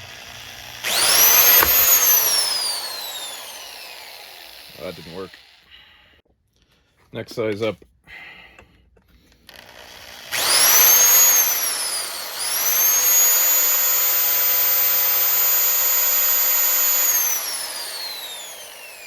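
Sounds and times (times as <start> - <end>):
electric drill whining: 0.0 - 5.8, 9.2 - 19.0.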